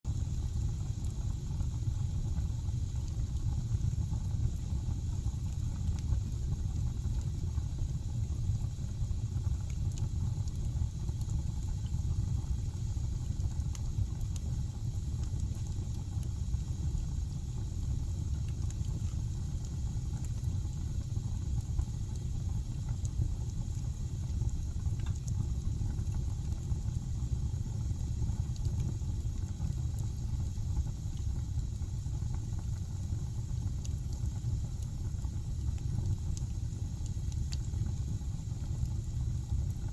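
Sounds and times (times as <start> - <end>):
fire crackling: 0.1 - 39.9
fire roaring: 0.1 - 39.9.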